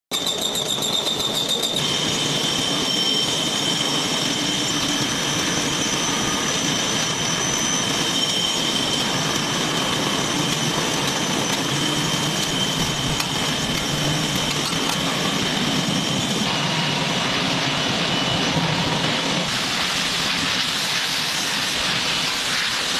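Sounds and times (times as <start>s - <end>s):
high-pitched whine: 0.1s - 22.9s
machinery running: 0.1s - 22.9s.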